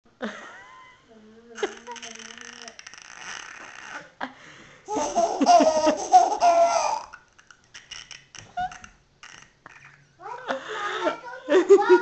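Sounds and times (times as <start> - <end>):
baby laughing: 1.6 - 4.1, 4.9 - 12.0.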